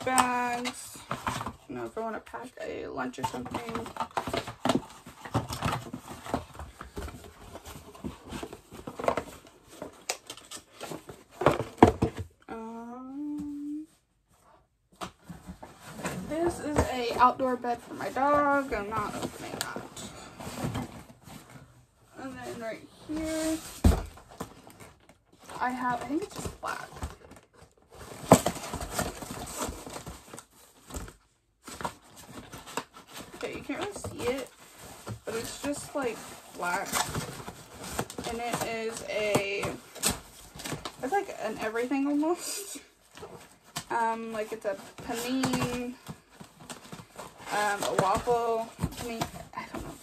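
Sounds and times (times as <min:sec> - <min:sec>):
boxes being handled: 0:00.0 - 0:12.5, 0:13.2 - 0:50.0
cardboard scraping and rustling: 0:03.1 - 0:12.3, 0:14.9 - 0:50.0.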